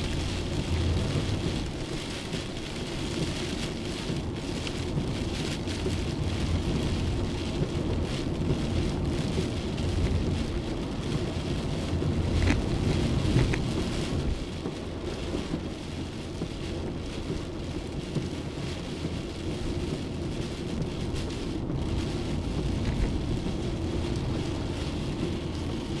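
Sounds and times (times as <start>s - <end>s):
heavy rain pouring: 0.0s - 26.0s
thunder rumbling: 0.0s - 26.0s.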